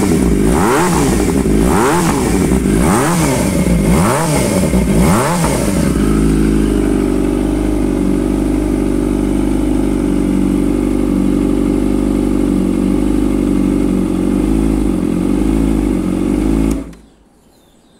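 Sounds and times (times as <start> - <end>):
motorcycle engine idling: 0.0 - 17.2.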